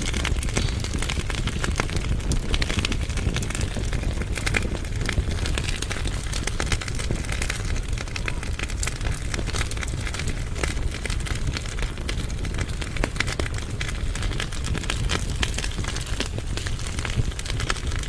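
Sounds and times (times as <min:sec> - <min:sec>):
fire low rumble: 0:00.0 - 0:18.0
firewood crackling and popping: 0:00.0 - 0:18.0.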